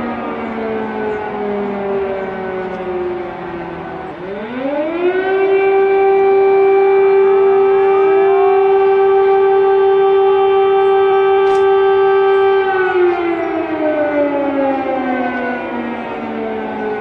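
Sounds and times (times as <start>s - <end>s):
air-raid siren wailing: 0.0s - 17.0s
second siren climbing: 0.0s - 17.0s.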